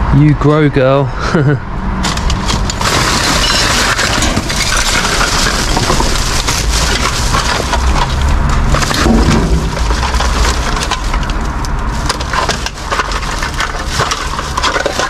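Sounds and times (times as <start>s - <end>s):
plastic bag rustling: 2.0s - 15.0s.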